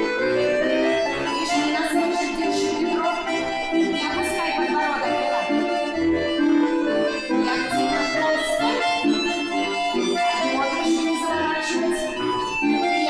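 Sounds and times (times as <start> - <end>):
accordion folk tune: 0.0 - 13.0.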